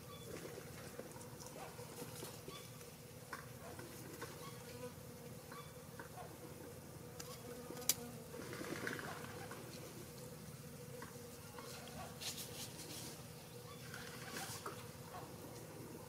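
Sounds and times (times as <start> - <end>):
faint insect buzz: 0.0 - 16.0.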